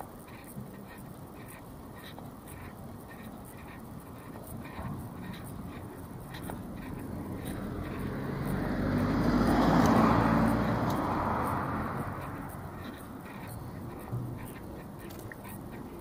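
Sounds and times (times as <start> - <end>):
vehicle passing by: 2.5 - 16.0.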